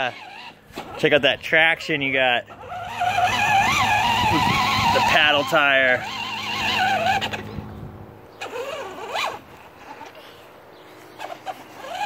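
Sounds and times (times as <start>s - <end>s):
toy electric motor whirring: 0.0s - 1.2s, 1.8s - 7.7s, 8.3s - 10.4s, 11.1s - 12.0s.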